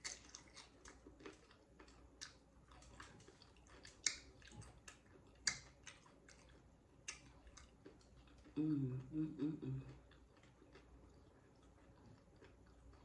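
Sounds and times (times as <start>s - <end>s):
person chewing crunchy chips: 0.0s - 8.6s, 9.8s - 13.0s.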